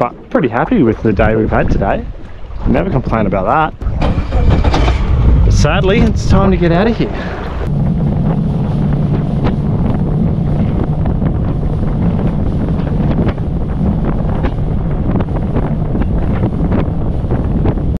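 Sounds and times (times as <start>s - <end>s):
wind buffeting microphone: 0.0s - 17.9s
boat motor droning: 1.0s - 17.9s.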